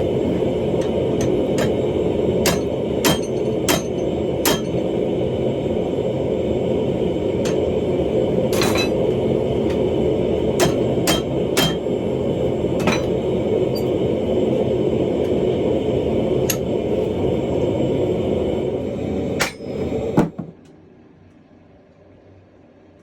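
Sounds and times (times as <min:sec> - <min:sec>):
machinery drone: 0:00.0 - 0:21.1.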